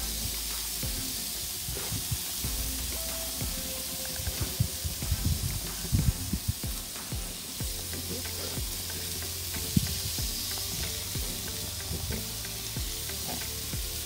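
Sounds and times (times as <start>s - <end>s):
burger patties sizzling on grill: 0.0s - 14.0s.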